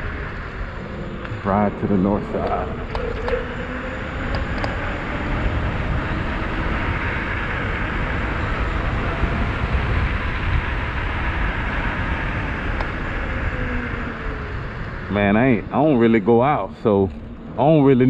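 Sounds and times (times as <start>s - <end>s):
heavy low rumble: 0.0s - 18.0s
road noise: 0.0s - 18.0s
wind rush on microphone: 0.0s - 18.0s.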